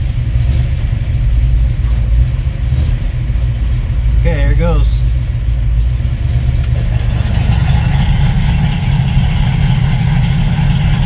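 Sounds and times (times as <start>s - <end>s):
engine idling with loud exhaust: 0.0s - 11.0s.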